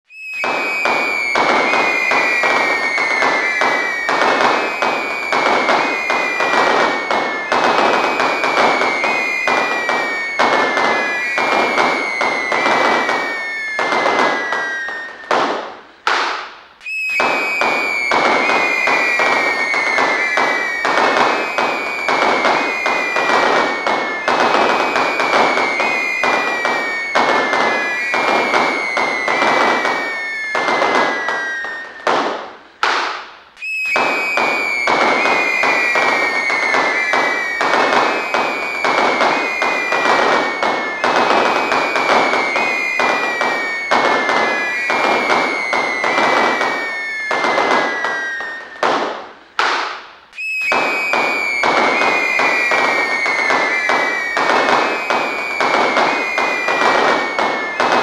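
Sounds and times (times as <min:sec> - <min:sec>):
fireworks whistling: 0:00.0 - 0:58.0
fireworks cracking and popping: 0:00.1 - 0:58.0.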